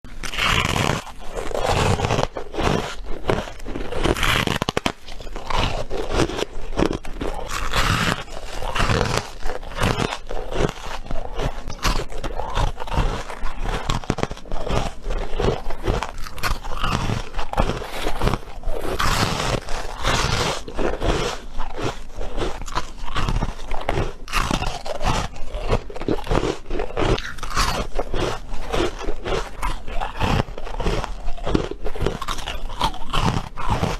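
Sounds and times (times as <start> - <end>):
frost crunching between teeth: 0.1 - 33.9.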